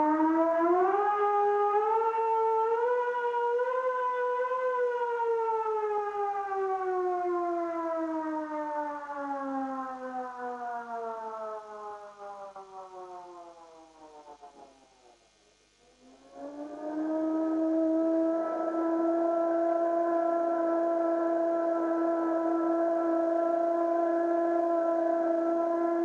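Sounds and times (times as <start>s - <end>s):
civil defence warning siren: 0.0s - 26.0s.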